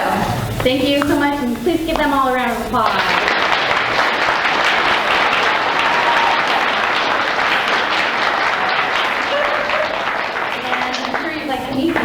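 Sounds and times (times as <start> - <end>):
faint voices: 0.0 - 12.0
audience applauding: 0.5 - 12.0.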